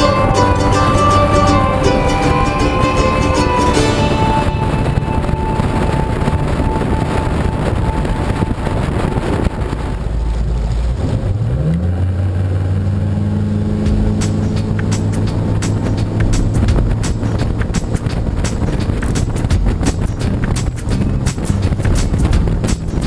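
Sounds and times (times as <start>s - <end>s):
boat engine speeding up: 0.0s - 22.7s
water noise: 0.0s - 23.0s
wind and road noise: 0.0s - 23.0s.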